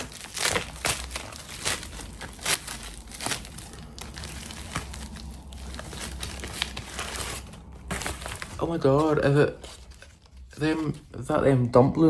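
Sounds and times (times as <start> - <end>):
packaging tearing: 0.0 - 10.7
packaging crinkling: 0.0 - 11.2.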